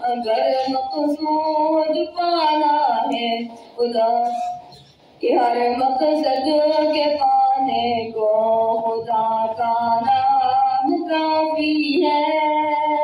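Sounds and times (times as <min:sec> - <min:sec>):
boy singing into a microphone: 0:00.0 - 0:13.0.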